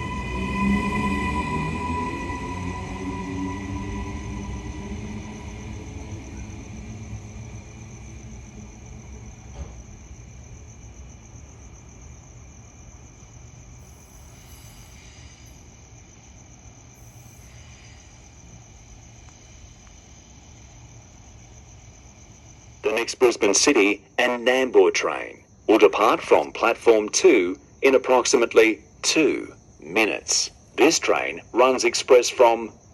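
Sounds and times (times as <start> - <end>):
night insects chirping: 0.0 - 32.9.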